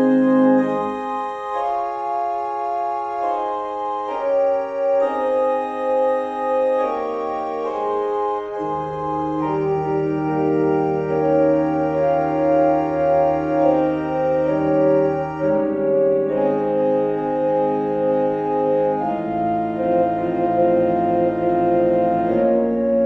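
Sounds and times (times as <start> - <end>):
organ playing sustained chords: 0.0 - 23.0.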